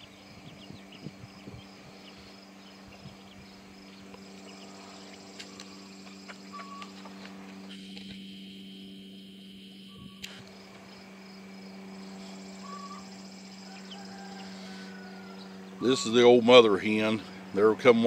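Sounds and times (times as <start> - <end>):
bird chirps: 0.0 - 11.2, 11.8 - 17.6
insect noise: 0.0 - 18.0
steady low hum: 0.0 - 18.0.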